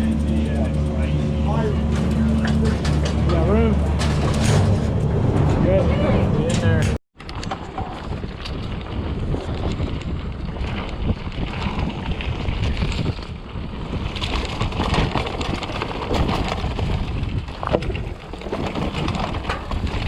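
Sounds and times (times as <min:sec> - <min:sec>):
bike tyres rumbling on dirt: 0:00.0 - 0:20.0
wind buffeting microphone: 0:00.0 - 0:20.0
bike frame knocks and rattles: 0:01.5 - 0:05.6, 0:06.4 - 0:20.0.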